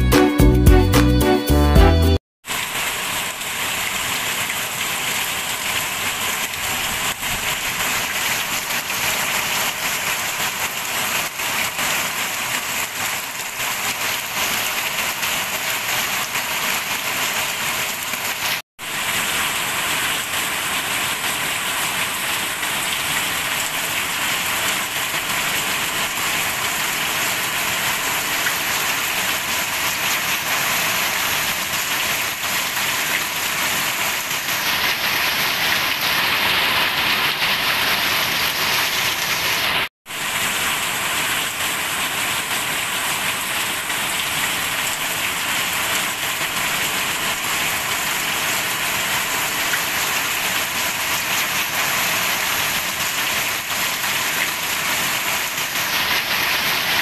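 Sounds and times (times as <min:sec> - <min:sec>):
steady rain on leaves: 0:02.4 - 0:57.0.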